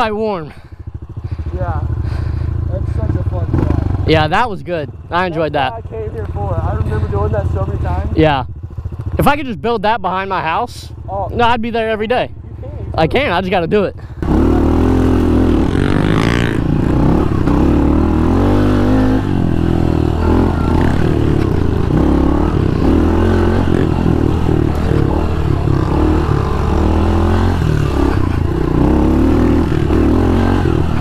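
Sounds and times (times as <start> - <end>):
motorbike engine revving: 0.0 - 31.0.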